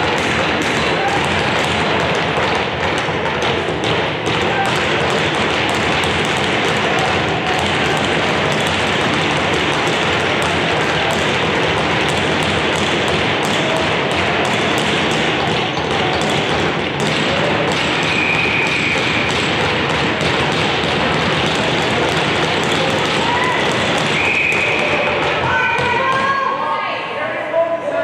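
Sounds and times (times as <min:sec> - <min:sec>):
sports game din: 0:00.0 - 0:26.7.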